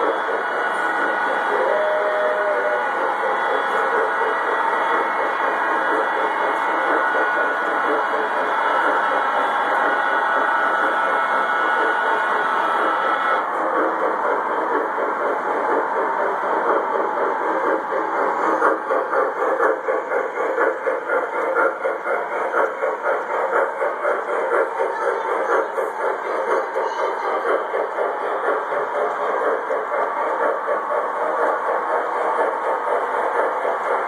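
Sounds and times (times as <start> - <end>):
model train whine and hiss: 0.0 - 34.0.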